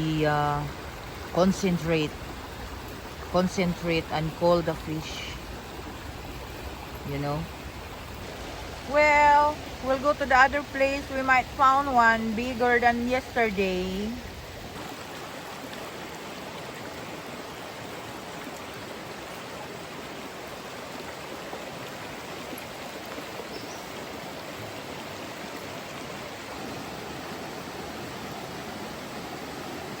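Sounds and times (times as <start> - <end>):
rushing river water: 0.0 - 30.0.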